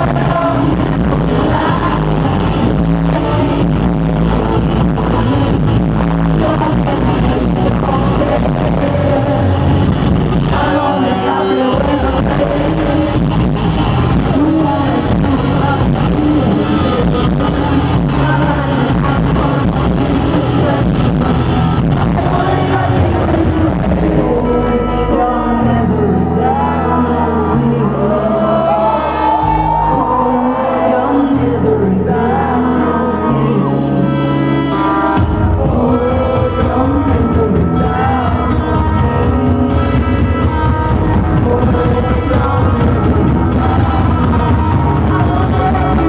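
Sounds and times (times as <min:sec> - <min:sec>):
crowd noise: 0:00.0 - 0:46.0
live rock band playing: 0:00.0 - 0:46.0
person singing: 0:00.0 - 0:46.0.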